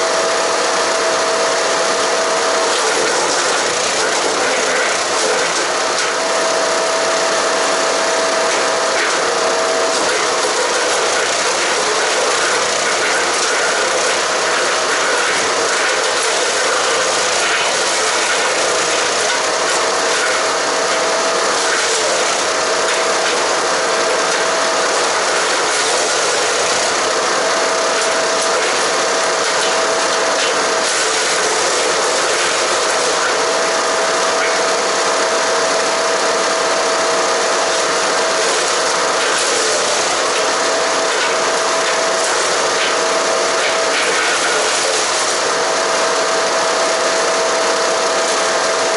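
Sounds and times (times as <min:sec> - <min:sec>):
wood chipper grinding branches: 0:00.0 - 0:48.9
wood chipper whine: 0:00.0 - 0:48.9.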